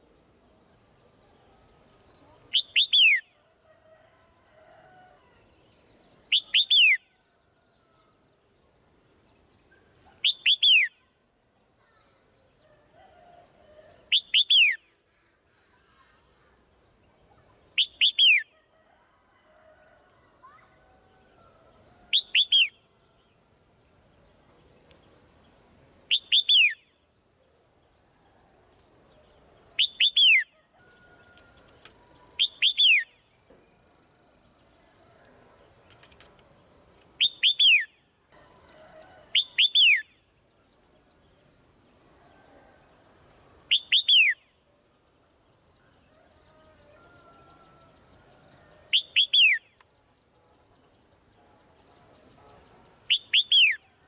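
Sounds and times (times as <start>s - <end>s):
steady high-pitched hiss: 0.0s - 54.0s.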